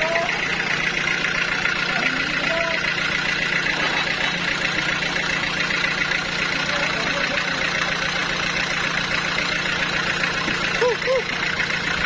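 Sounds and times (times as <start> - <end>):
sawmill machinery running: 0.0 - 12.0.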